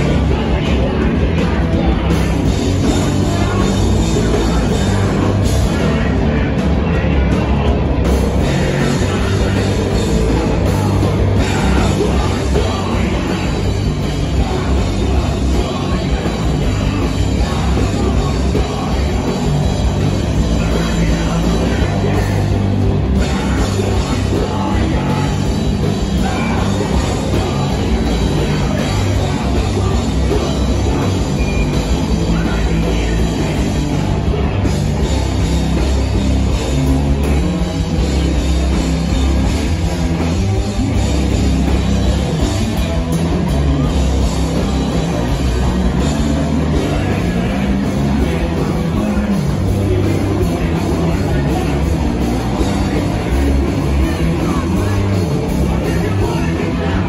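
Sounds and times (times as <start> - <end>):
distorted electric guitar: 0.0 - 57.0
pounding drum kit: 0.0 - 57.0
punk band playing live: 0.0 - 57.0.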